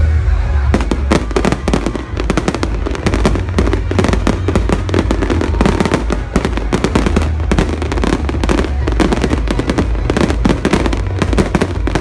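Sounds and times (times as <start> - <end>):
fireworks crackling and popping: 0.5 - 12.0.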